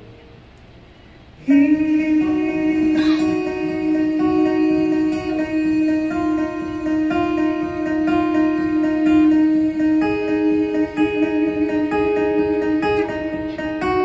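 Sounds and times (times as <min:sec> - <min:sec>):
acoustic guitar playing: 0:01.4 - 0:14.0.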